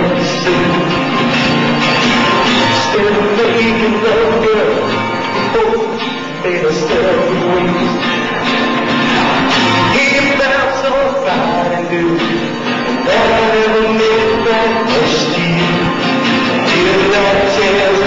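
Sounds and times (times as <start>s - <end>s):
person singing: 0.0s - 1.2s, 2.4s - 8.1s, 8.9s - 18.0s
guitar accompaniment: 0.0s - 18.0s.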